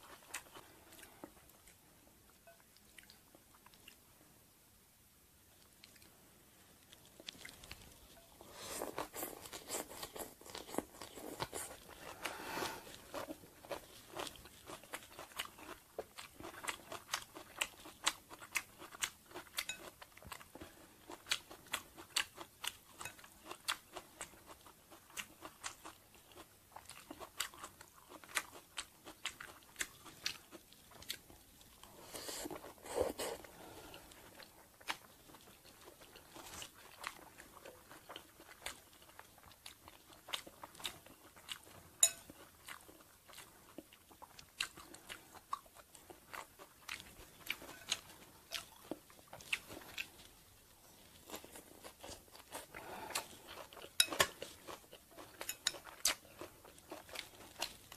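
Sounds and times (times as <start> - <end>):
chewing crispy crepe: 6.8 - 57.9.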